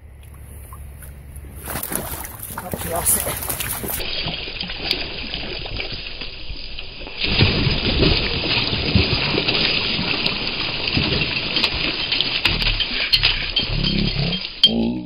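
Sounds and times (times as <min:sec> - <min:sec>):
water splashing in a stream: 0:00.2 - 0:13.9.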